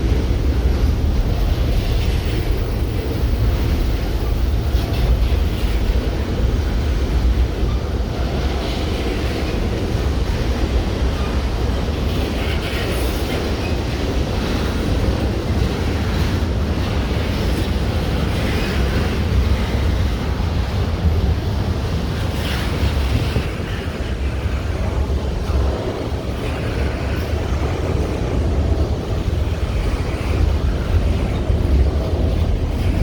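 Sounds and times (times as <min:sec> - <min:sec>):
train rumbling past: 0:00.0 - 0:33.0
wind buffeting microphone: 0:00.0 - 0:33.0.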